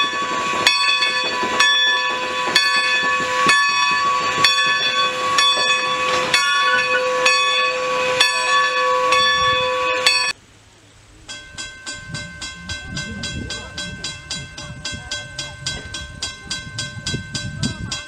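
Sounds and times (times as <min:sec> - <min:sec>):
steam locomotive hissing: 0:00.0 - 0:10.4, 0:11.0 - 0:18.0.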